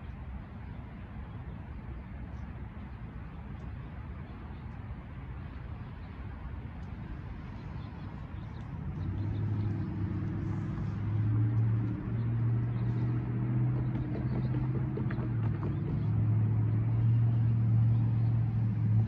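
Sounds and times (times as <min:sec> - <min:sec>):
diesel locomotive engine hum: 0:00.0 - 0:19.0
street traffic noise: 0:00.0 - 0:19.0.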